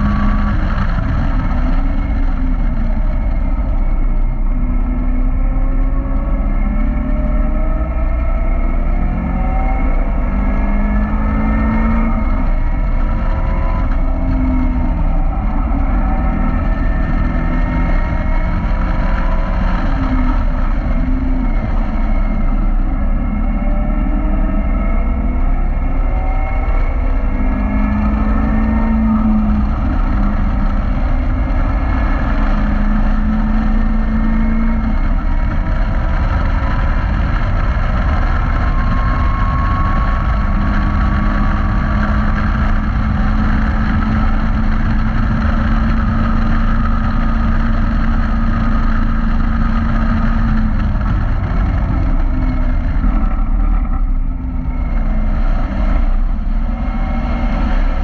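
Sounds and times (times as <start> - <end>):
car engine revving through gears: 0.0 - 58.0
low wind rumble: 0.0 - 58.0.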